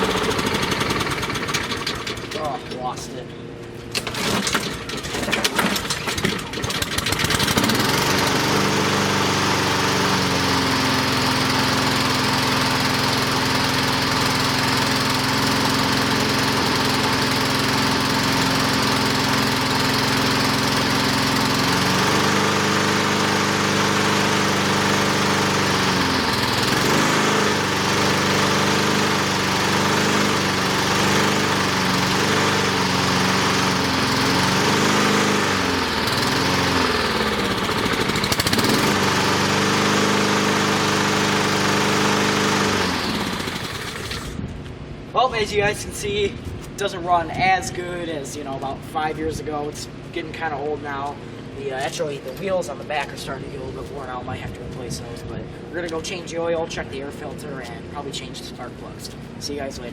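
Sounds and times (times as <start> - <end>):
lawnmower engine running: 0.0 - 46.8, 47.6 - 59.9.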